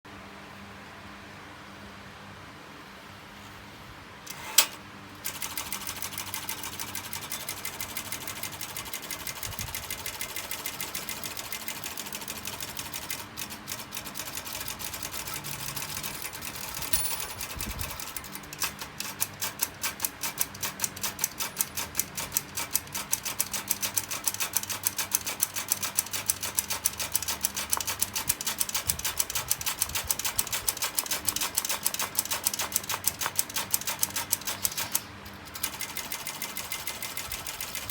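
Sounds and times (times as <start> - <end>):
typewriter keystrokes clattering: 4.3 - 37.9.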